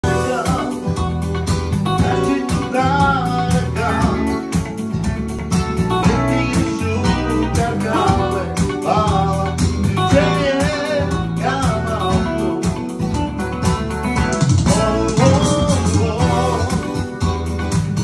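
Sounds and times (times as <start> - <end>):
man singing: 0.0 - 4.8, 5.9 - 13.0, 14.6 - 17.4
electronic keyboard: 0.0 - 18.0
steady beat: 0.0 - 18.0
strummed acoustic guitar: 0.0 - 18.0.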